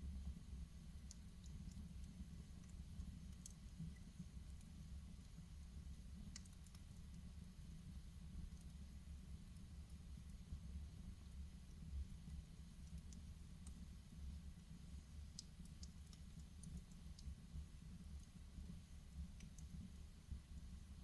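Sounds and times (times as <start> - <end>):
fire crackling and snapping: 0.8 - 10.6, 11.2 - 18.3.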